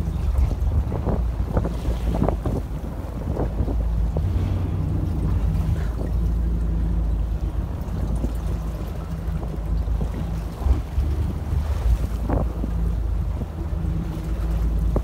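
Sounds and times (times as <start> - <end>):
boat engine humming: 0.0 - 15.0
wind on microphone: 0.0 - 15.0.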